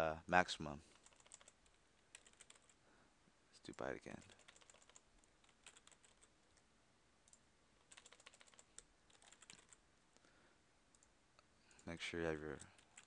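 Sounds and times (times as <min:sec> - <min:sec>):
faint keyboard typing: 0:00.8 - 0:02.8, 0:03.7 - 0:10.3, 0:10.9 - 0:13.0.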